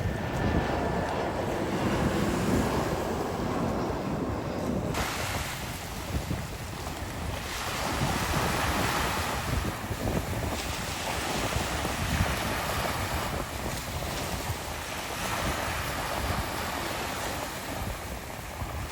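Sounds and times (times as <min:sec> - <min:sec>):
rough sea waves washing in: 0:00.0 - 0:18.9
wind buffeting microphone: 0:00.0 - 0:18.9.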